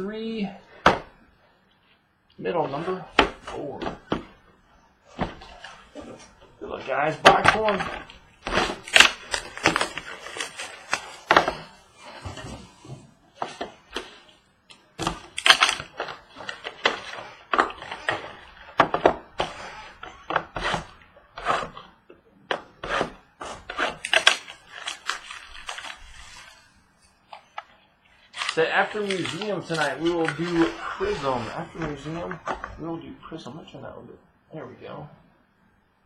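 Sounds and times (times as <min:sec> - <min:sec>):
knocks scrapes and crinkles: 0:00.2 - 0:33.0.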